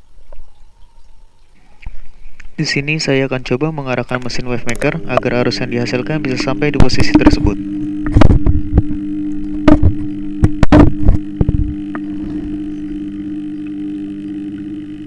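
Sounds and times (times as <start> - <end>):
underwater pump humming: 0.0 - 15.0.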